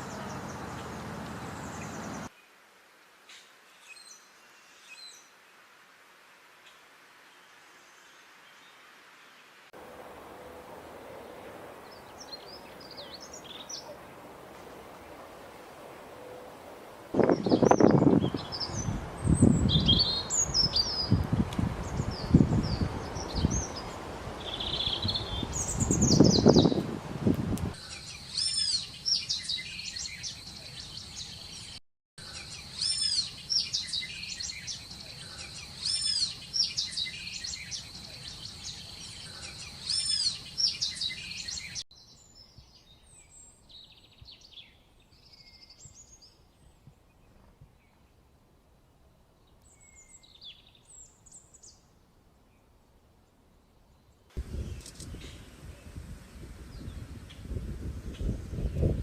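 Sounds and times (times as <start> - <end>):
songbirds chirping: 0.0 - 5.8, 6.6 - 26.9, 27.6 - 48.4, 49.0 - 59.0.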